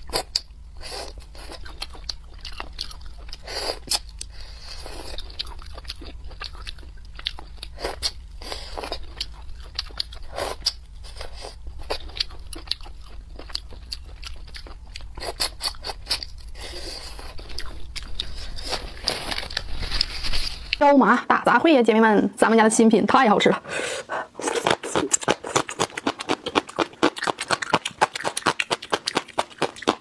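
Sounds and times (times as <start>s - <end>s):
crunchy eating and chewing: 0.0s - 20.8s, 24.4s - 30.0s.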